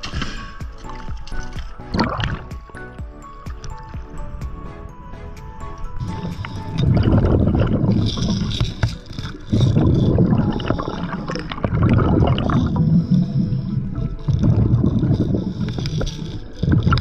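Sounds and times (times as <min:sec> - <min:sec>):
churning water noise: 0:00.0 - 0:17.0.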